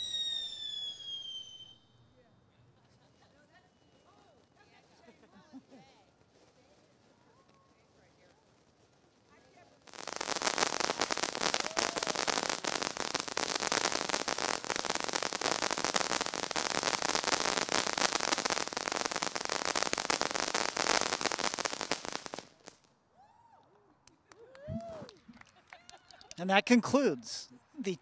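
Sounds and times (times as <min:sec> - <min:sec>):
ground fountain firework crackling: 0:00.0 - 0:01.8, 0:02.7 - 0:23.0, 0:24.1 - 0:28.0.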